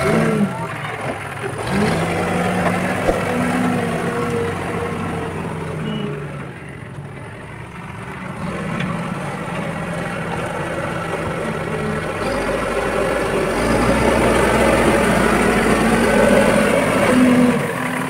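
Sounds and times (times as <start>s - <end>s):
diesel engine revving under load: 0.0s - 18.0s
tractor engine running: 0.0s - 18.0s.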